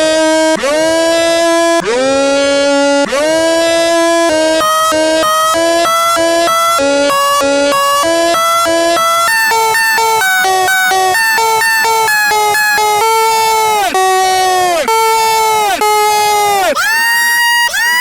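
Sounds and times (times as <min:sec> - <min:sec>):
two-pitch siren wail: 0:00.0 - 0:18.0.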